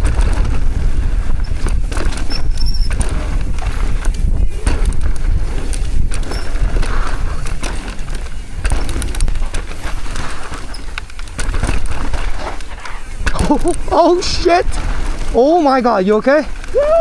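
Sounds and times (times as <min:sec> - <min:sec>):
bike chain and frame rattling: 0:00.0 - 0:17.0
wind and tyre rumble: 0:00.0 - 0:17.0.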